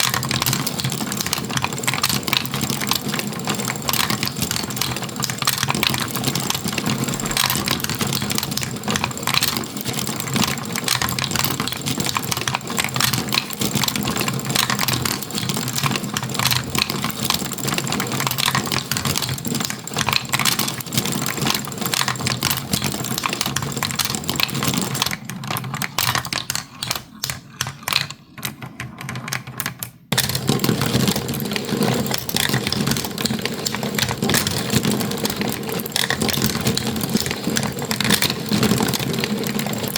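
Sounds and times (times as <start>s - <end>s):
marbles clattering through a marble run: 0.0s - 39.9s.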